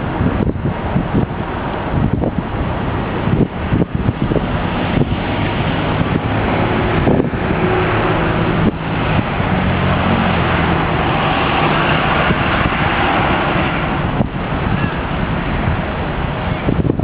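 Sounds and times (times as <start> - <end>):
low engine hum: 0.0 - 17.0
wind rushing over microphone: 0.0 - 17.0.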